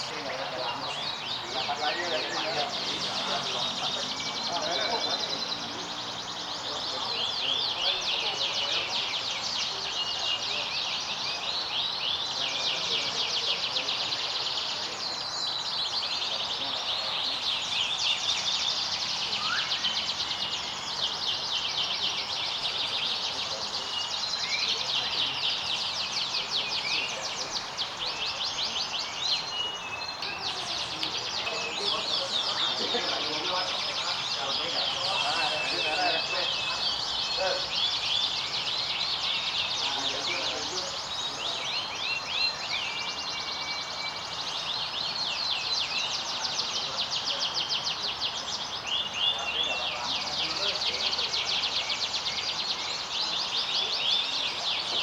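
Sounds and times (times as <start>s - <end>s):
canaries singing: 0.0s - 55.0s.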